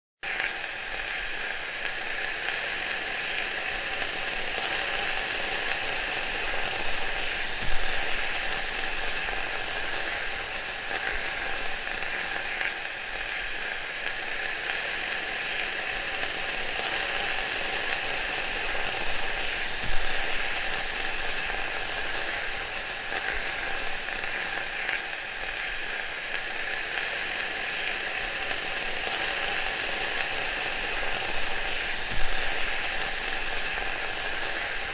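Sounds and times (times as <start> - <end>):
food sizzling in hot oil: 0.2 - 34.9.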